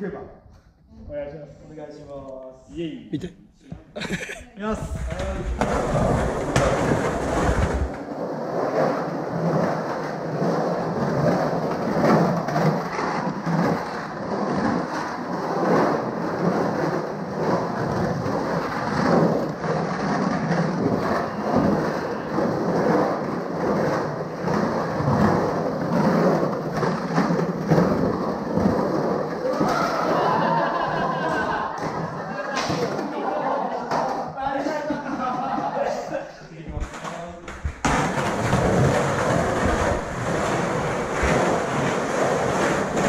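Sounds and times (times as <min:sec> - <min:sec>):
skateboard wheels rolling on concrete: 0:04.8 - 0:36.0, 0:36.8 - 0:43.0.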